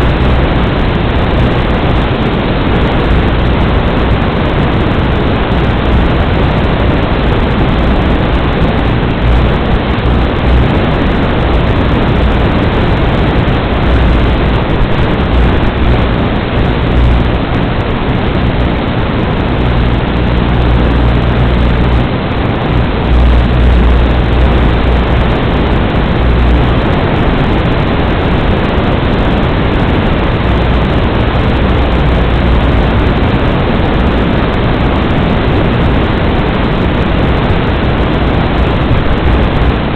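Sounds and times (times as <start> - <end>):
low hum: 0.0 - 39.9
static hiss: 0.0 - 39.9.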